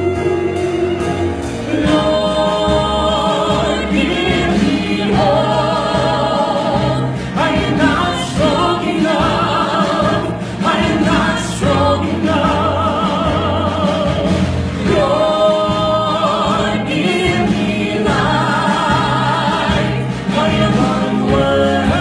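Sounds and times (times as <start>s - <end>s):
choir singing held notes: 0.0s - 22.0s
musical accompaniment: 0.0s - 22.0s.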